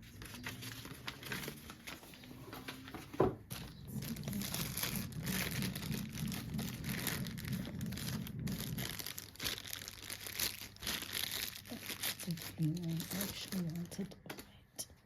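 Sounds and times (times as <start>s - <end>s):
packaging crinkling and rustling: 0.0s - 14.6s
packaging tearing: 0.1s - 14.0s.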